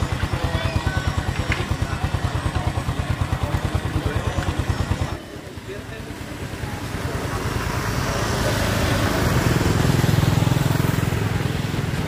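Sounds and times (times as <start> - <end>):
small engine passing by: 0.0 - 12.0.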